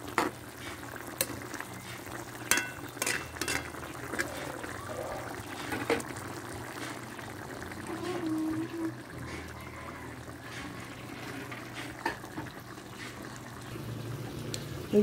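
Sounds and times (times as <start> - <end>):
curry simmering with pops: 0.0 - 15.0.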